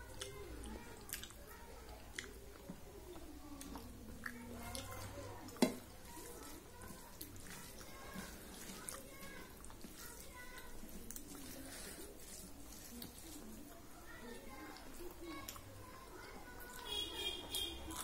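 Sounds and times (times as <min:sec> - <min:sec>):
hand mixing food squishing: 0:00.0 - 0:18.0.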